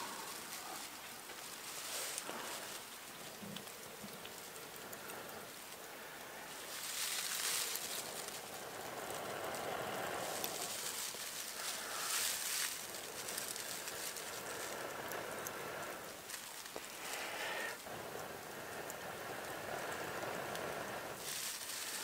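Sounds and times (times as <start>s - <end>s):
dry grass crackling and rustling: 0.0s - 22.0s.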